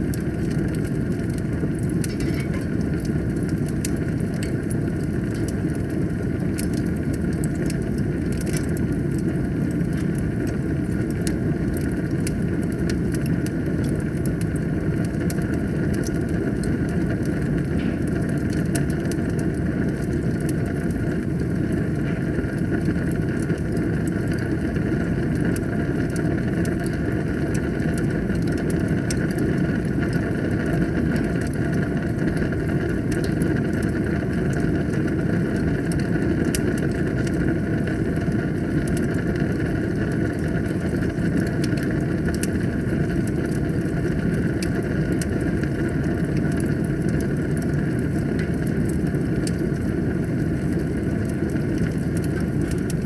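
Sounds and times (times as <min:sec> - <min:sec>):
fire crackling and popping: 0:00.0 - 0:53.0
fire flames rushing: 0:00.0 - 0:53.0.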